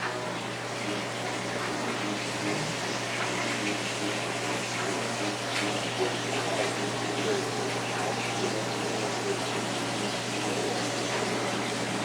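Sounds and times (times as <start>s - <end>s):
water running from a tap: 0.4s - 12.0s.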